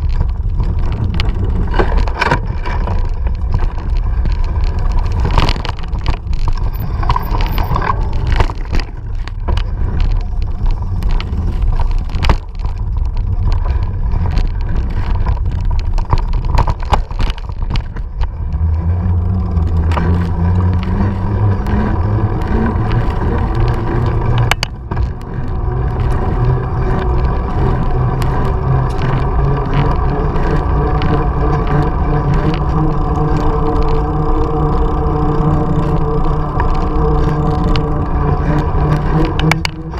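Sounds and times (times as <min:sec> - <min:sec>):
bike rattling on dirt trail: 0:00.0 - 0:39.9
tyres humming on pavement: 0:00.0 - 0:39.9.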